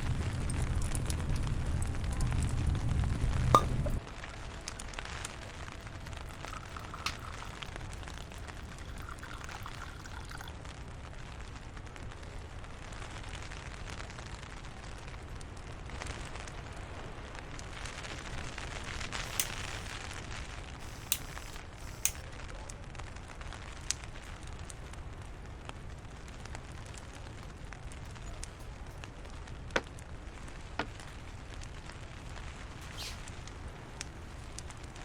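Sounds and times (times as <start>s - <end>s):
steady rain: 4.0s - 35.0s.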